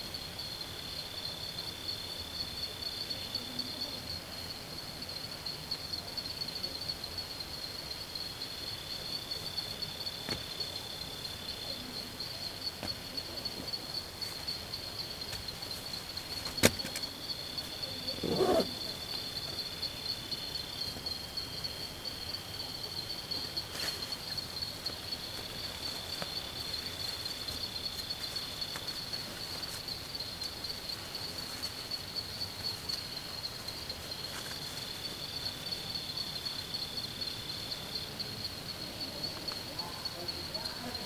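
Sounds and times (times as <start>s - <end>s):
lower steady insect buzz: 0.0s - 41.0s
insects trilling: 5.1s - 41.0s.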